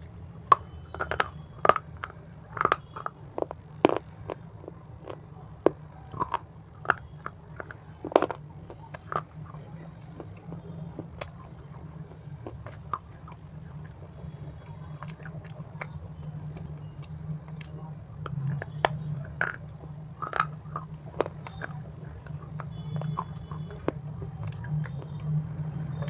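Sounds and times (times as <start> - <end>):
person chewing crunchy food: 0.0 - 25.3
steady low hum: 0.0 - 26.0.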